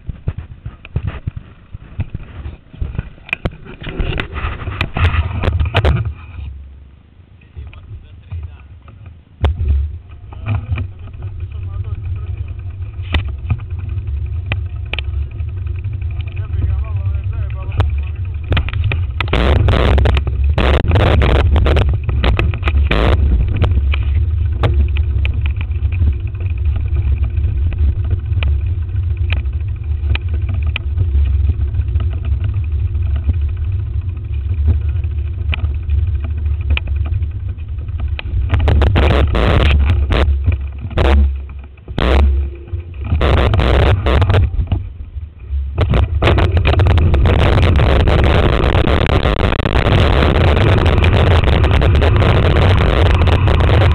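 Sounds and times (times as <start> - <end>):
clatters: 0.0 - 6.6, 7.4 - 53.9
road rumble: 0.0 - 53.9
wind buffeting microphone: 7.4 - 53.9.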